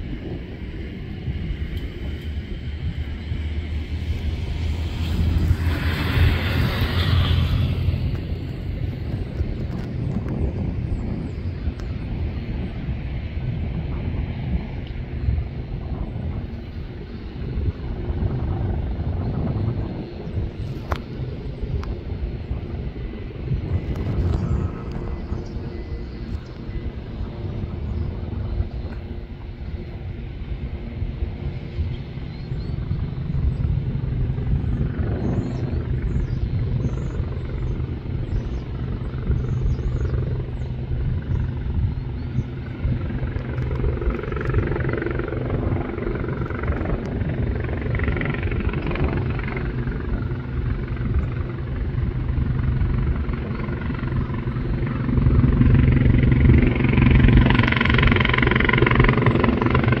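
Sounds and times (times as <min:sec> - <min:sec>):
helicopter rotor and engine drone: 0:00.0 - 1:00.0.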